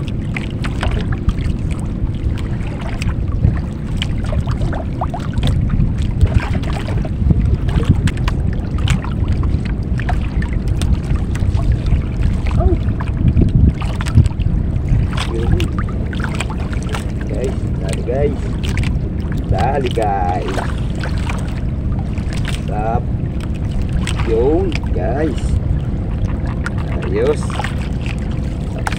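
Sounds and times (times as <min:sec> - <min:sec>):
small splashes: 0:00.0 - 0:28.9
water lapping against hull: 0:00.0 - 0:28.9
wind on microphone: 0:00.0 - 0:28.9.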